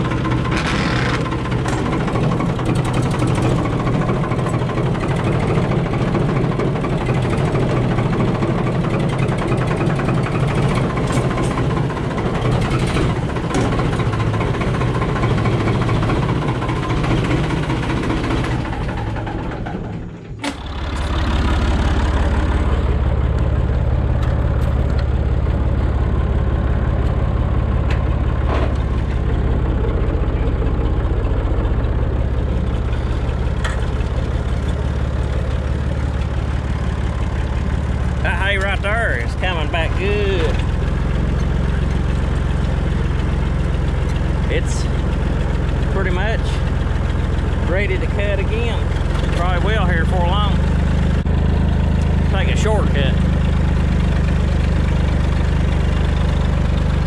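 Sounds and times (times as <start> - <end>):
tractor engine low drone: 0.0 - 57.0
tractor engine running: 0.0 - 57.0.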